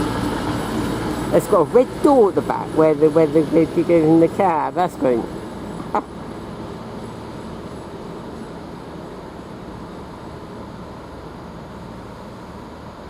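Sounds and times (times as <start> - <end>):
diesel train engines idling: 0.0 - 13.0.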